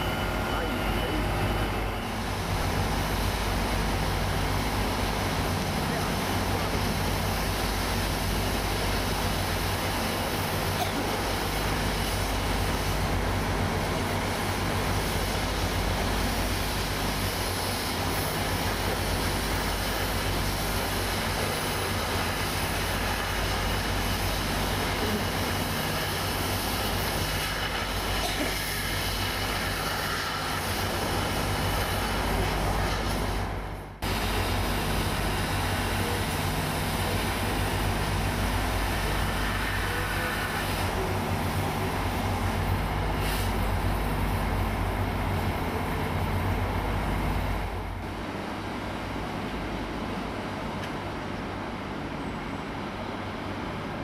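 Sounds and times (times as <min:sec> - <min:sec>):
cutting torch hissing: 0:00.0 - 0:44.6
engine drone: 0:00.0 - 0:50.9.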